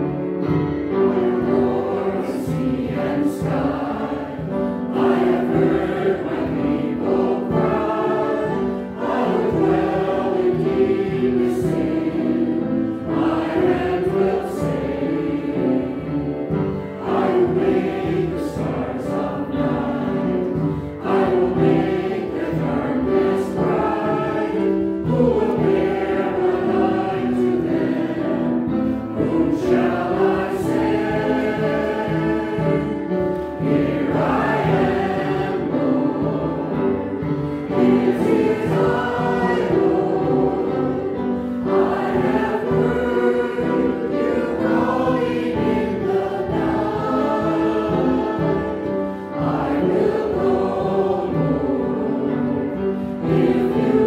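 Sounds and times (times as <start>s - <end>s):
choir and congregation singing hymn: 0.0s - 54.0s.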